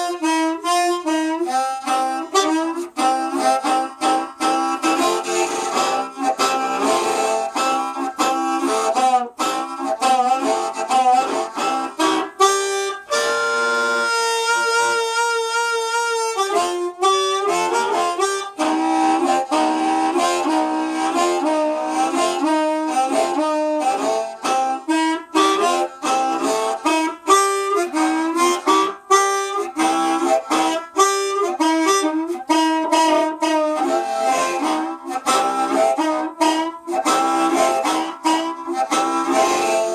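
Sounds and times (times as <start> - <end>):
harmonica playing rhythmic chords: 0.0 - 39.9.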